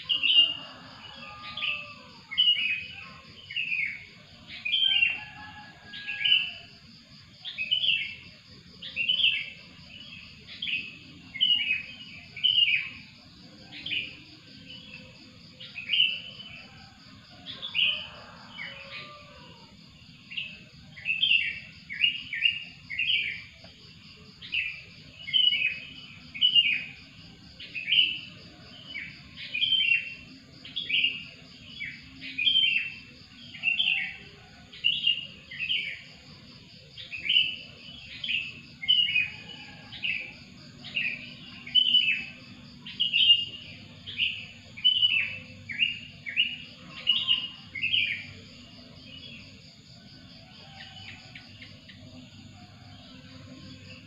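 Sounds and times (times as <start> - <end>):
insect trill: 0.0 - 54.0
songbird chirping: 0.0 - 54.0.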